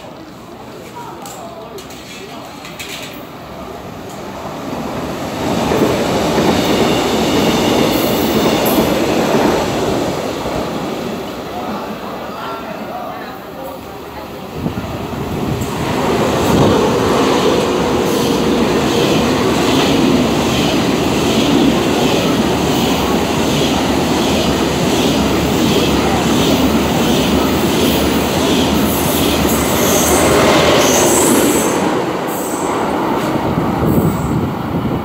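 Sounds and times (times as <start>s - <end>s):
high-speed train passing: 0.0s - 35.0s.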